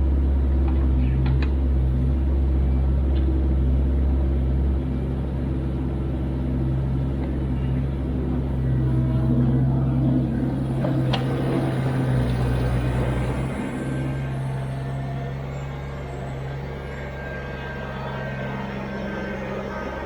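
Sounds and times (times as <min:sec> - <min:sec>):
excavator diesel engine droning: 0:00.0 - 0:20.0.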